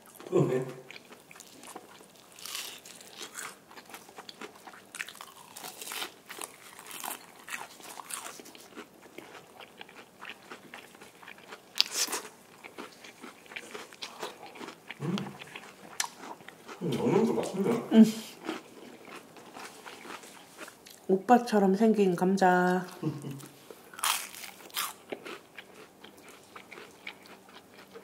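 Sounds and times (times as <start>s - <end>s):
crunching fried shrimp: 0.9s - 16.8s, 18.4s - 21.1s, 23.8s - 28.0s.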